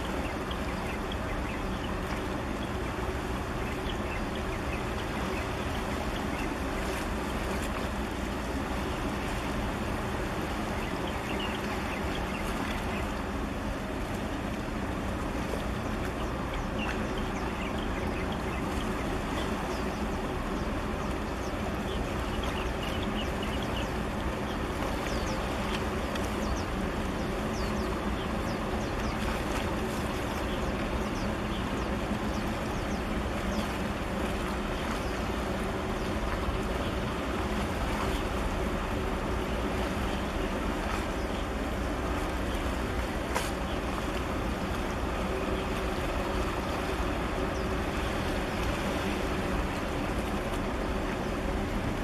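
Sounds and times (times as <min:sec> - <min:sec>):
ship engine drone: 0:00.0 - 0:52.0
wind and water noise: 0:00.0 - 0:52.0.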